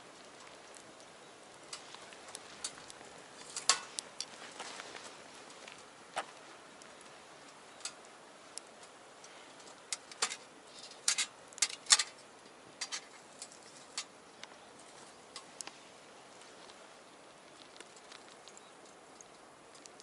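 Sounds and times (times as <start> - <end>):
wood fire crackling in a stove: 0.0 - 20.0.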